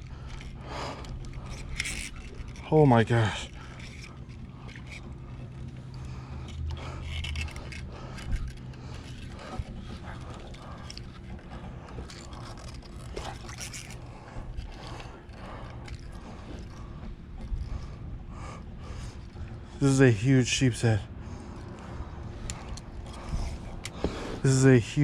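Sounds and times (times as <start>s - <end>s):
fishing reel scraping and clicking: 0.0s - 20.9s, 21.6s - 25.0s
low steady hum: 0.0s - 25.0s.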